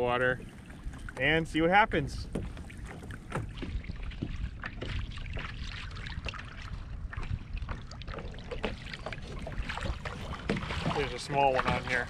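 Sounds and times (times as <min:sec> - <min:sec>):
small waves lapping against hull: 0:00.0 - 0:12.0
wind rumble on microphone: 0:00.0 - 0:12.0.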